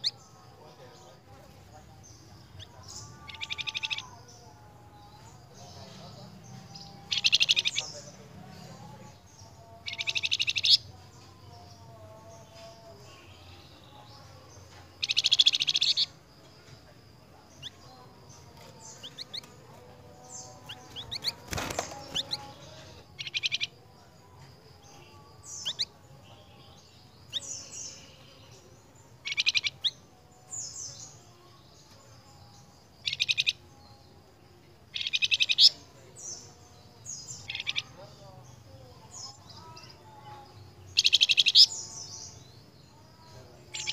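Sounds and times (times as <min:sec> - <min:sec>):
songbird rattling song: 0:01.2 - 0:11.8, 0:12.4 - 0:42.8.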